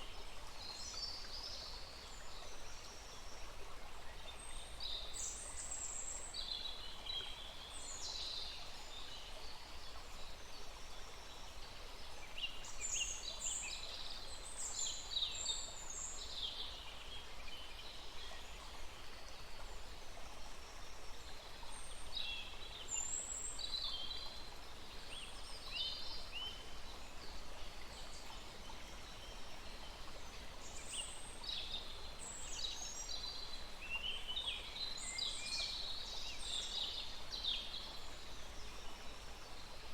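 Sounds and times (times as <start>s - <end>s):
small stream rushing: 0.0s - 39.9s.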